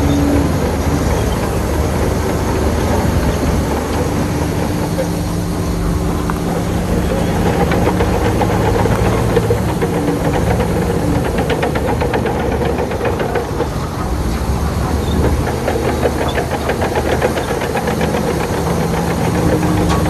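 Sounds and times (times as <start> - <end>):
bulldozer diesel engine: 0.0 - 20.0
rapid clatter: 0.0 - 20.0.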